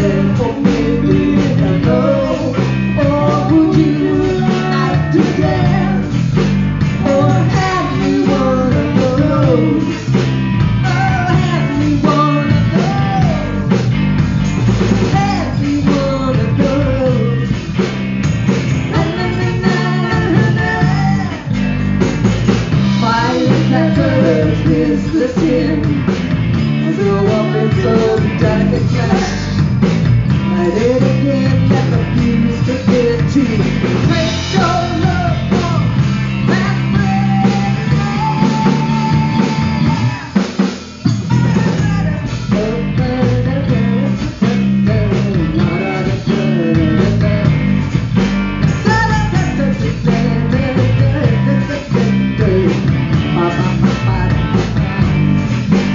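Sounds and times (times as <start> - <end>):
woman singing: 0.0 - 6.2, 7.0 - 10.2, 10.8 - 13.7, 15.0 - 17.6, 18.9 - 21.5, 23.0 - 29.6, 30.3 - 40.4, 41.2 - 47.8, 48.7 - 55.1
bass guitar: 0.0 - 55.9
drum kit: 0.0 - 55.9
electric guitar: 0.0 - 55.9.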